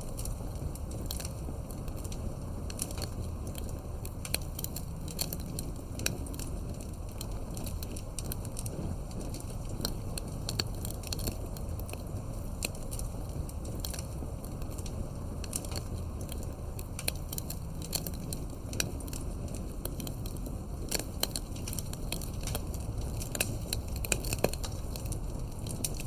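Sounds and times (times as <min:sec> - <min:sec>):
low rumble of flames: 0:00.0 - 0:26.0
wood fire pops and crackles: 0:00.0 - 0:26.0.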